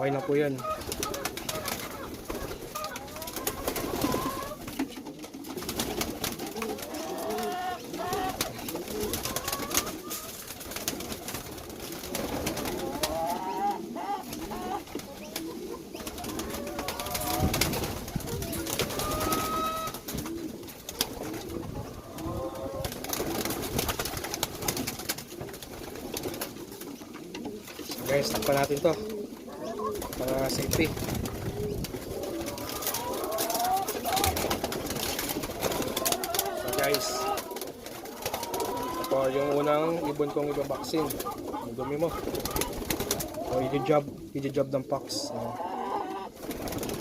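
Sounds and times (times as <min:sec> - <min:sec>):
birds moving with clicks and knocks: 0:00.0 - 0:44.9
pigeons cooing: 0:00.0 - 0:47.0.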